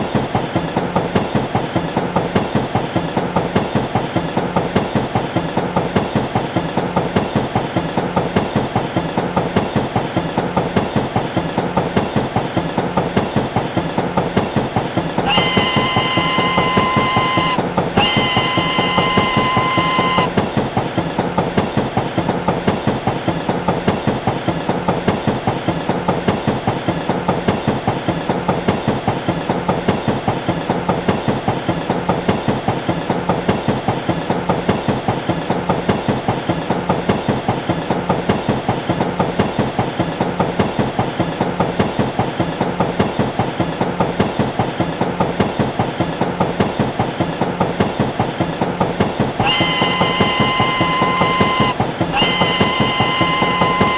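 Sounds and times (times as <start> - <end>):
train rumble: 0.0 - 53.9
train wheels clacking over rail joints: 0.0 - 53.9.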